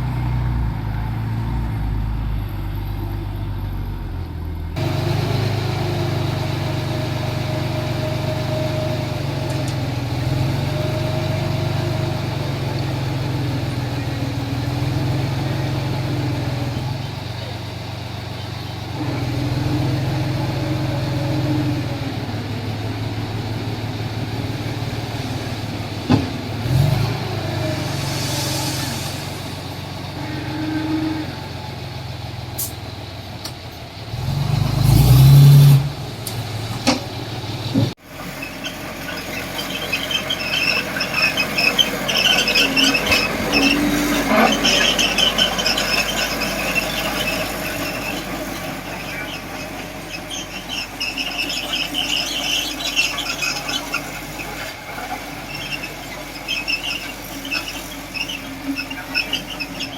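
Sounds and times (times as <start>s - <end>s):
bulldozer diesel engine running: 0.0s - 59.9s
steel tracks squealing and rattling: 6.0s - 59.9s.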